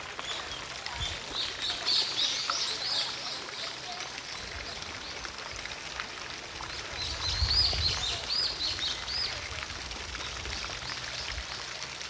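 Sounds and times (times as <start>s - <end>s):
distant fountain splashing: 0.0s - 12.0s.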